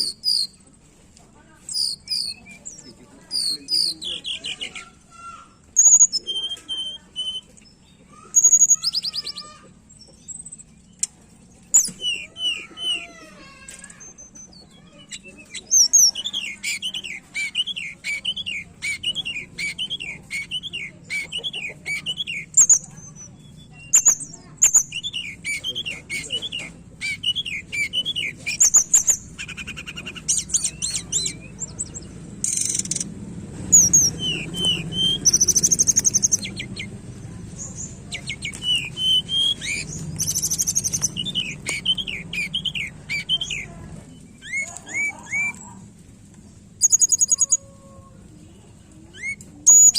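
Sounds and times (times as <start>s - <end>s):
bird chirping song: 0.0s - 0.6s, 1.6s - 45.8s, 46.4s - 49.9s.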